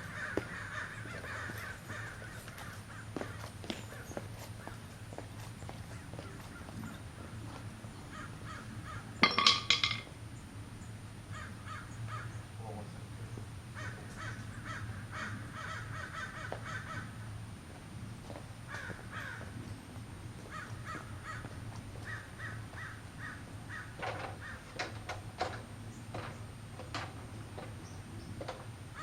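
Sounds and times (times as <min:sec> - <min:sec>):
bird calls: 0:00.0 - 0:17.1, 0:18.7 - 0:29.0.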